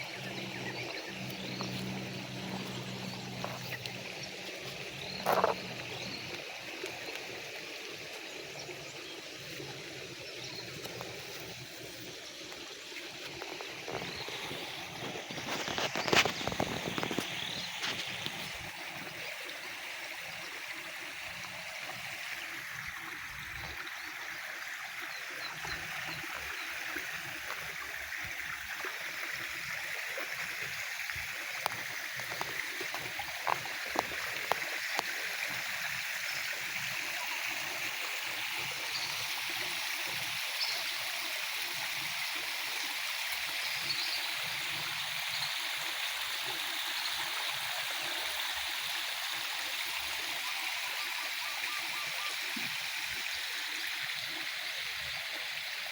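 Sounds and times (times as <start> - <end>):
water flowing: 0.0 - 55.9.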